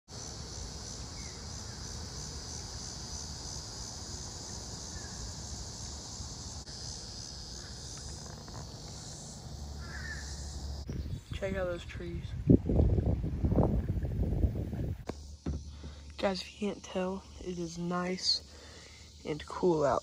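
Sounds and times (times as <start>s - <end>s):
crickets chirping: 0.1s - 20.0s.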